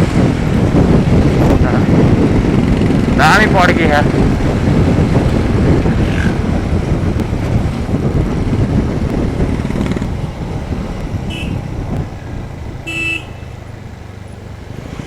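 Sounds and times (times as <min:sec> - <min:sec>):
motorcycle engine rumbling: 0:00.0 - 0:15.0
wind rushing over microphone: 0:00.0 - 0:15.0.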